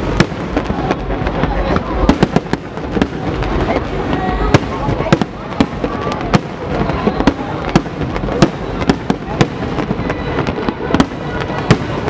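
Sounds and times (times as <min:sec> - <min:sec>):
fireworks crackling and booming: 0:00.0 - 0:12.0.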